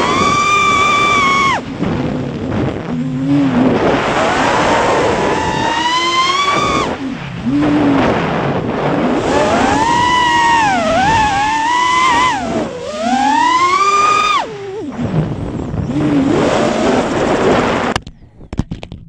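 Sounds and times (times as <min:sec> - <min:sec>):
drone motors whining: 0:00.0 - 0:18.0
rough low whir: 0:00.0 - 0:19.0.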